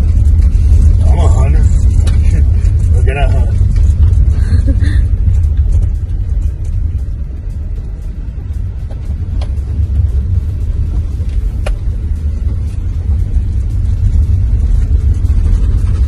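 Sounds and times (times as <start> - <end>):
tyres and engine rumble on gravel: 0.0 - 16.0.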